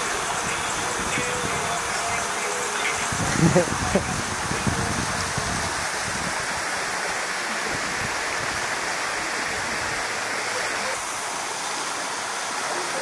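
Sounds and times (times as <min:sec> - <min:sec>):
running water hiss: 0:00.0 - 0:13.0.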